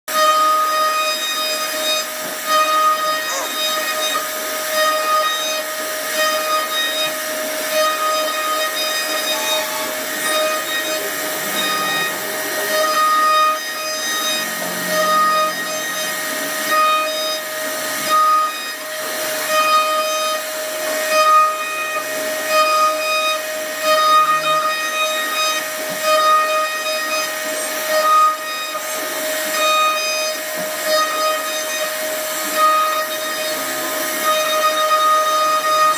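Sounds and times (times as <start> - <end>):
rough wood cutting noise: 0.1 - 35.9
router spindle high whine: 0.1 - 35.9.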